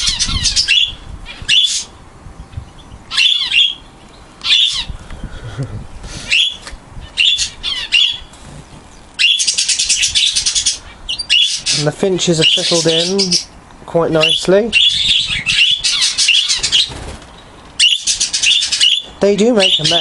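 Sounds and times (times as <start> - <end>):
small cage birds chirping: 0.0 - 20.0.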